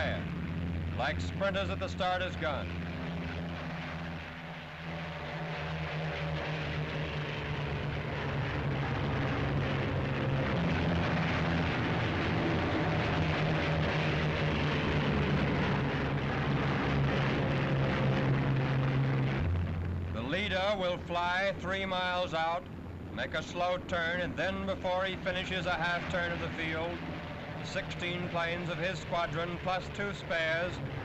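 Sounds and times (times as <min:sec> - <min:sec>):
propeller plane engines drone: 0:00.0 - 0:31.0.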